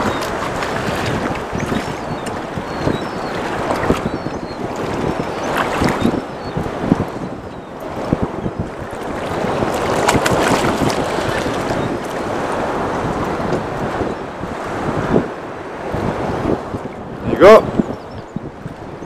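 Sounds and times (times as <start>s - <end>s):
waves slapping boat: 0.0s - 19.0s
wind buffeting microphone: 0.0s - 19.0s.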